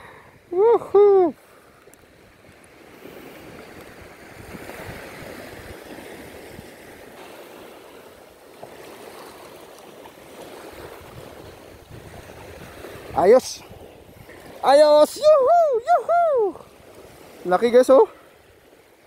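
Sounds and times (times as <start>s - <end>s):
small waves lapping over rocks: 1.4s - 15.9s, 16.5s - 19.0s.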